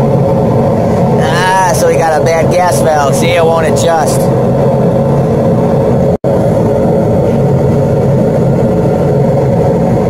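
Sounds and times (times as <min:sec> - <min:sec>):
burner roar: 0:00.0 - 0:10.0
fan hum: 0:00.0 - 0:10.0.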